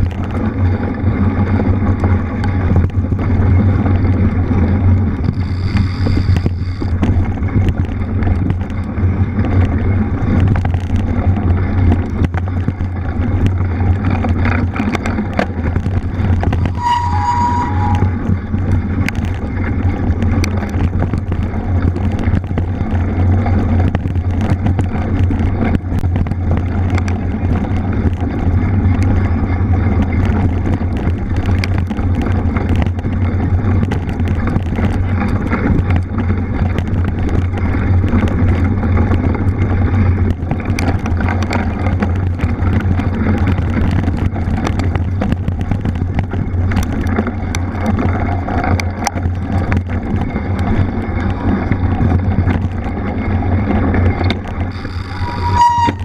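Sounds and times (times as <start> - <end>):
bike knocks and rattles: 0.0 - 56.0
wind rushing over microphone: 0.0 - 56.0.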